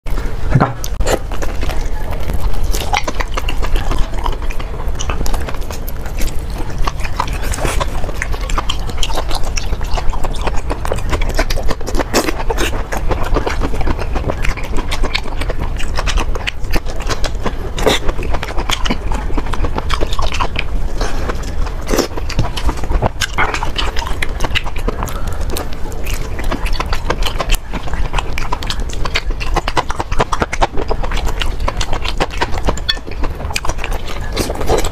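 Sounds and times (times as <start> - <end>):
wet chewing and lip smacking: 0.1 - 34.9.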